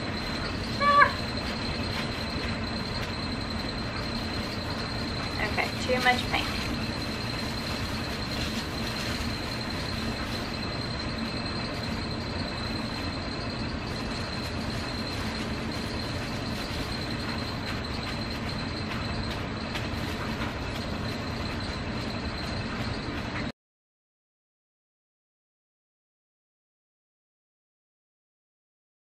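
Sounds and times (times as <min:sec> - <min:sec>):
machine whirring with whine: 0:00.0 - 0:23.5.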